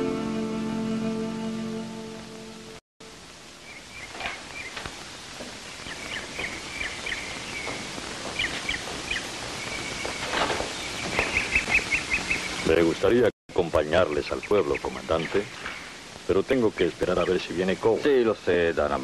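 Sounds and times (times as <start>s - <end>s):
steady hiss: 0.3s - 19.0s
small birds chirping: 3.5s - 19.0s.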